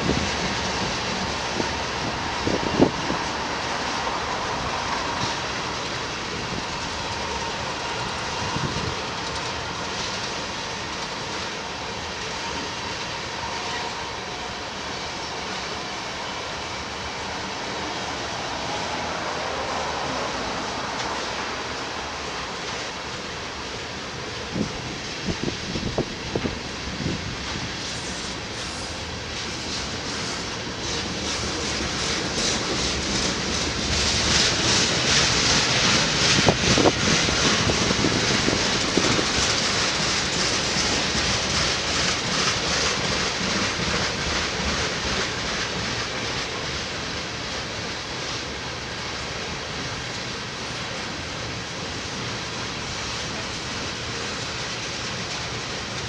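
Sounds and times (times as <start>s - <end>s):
train wheels clicking on rails: 0.0s - 56.0s.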